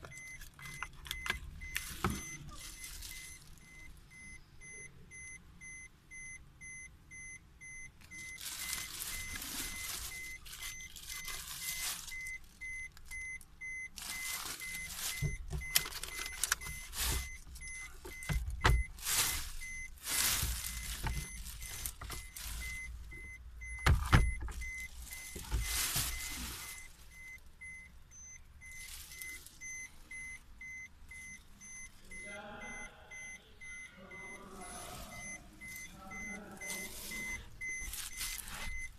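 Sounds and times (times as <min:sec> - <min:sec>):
rustling and handling noise: 0:00.0 - 0:05.4, 0:07.2 - 0:32.2, 0:32.8 - 0:38.9
high-pitched car warning chime: 0:00.0 - 0:38.9.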